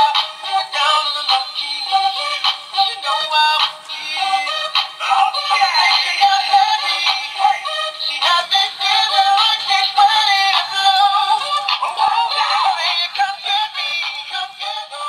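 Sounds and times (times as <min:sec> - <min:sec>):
tinny song from small speaker: 0:00.0 - 0:15.0.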